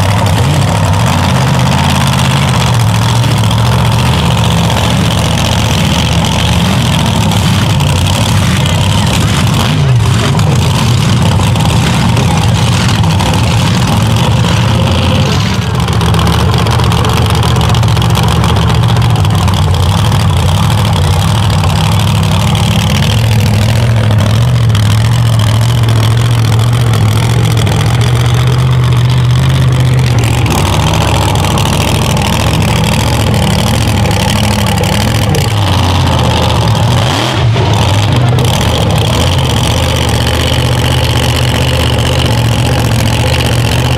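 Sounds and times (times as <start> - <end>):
truck engine droning: 0.0 - 43.9.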